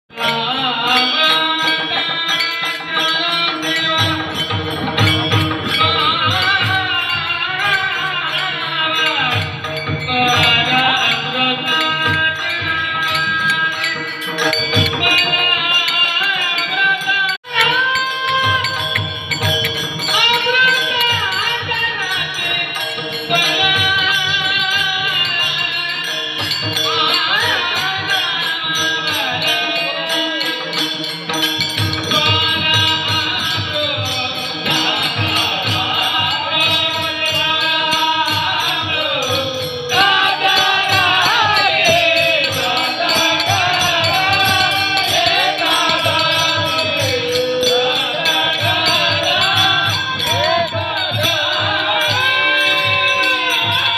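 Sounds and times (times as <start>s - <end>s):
jingling cymbals: 0.1s - 53.9s
person singing: 0.1s - 53.9s
fast drum beats: 0.2s - 53.9s.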